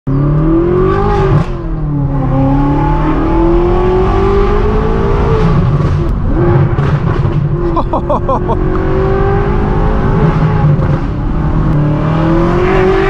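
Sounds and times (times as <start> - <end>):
car engine accelerating: 0.1 - 13.0.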